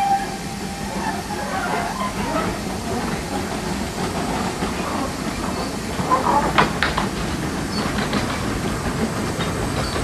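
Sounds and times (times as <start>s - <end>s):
steam train rumble and hiss: 0.0s - 10.0s.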